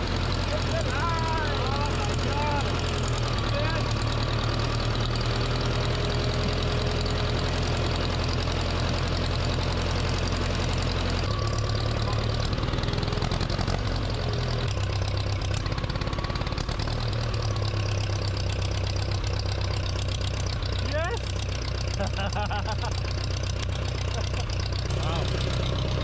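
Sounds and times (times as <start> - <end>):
backhoe engine running: 0.0 - 26.0.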